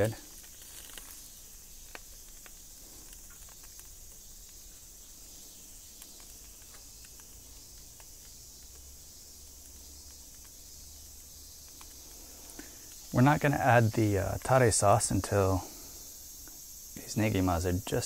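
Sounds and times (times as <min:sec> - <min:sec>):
fire crackling and popping: 0:00.0 - 0:18.0
high-pitched hiss: 0:00.0 - 0:18.0
skewers grilling over charcoal: 0:00.0 - 0:18.0.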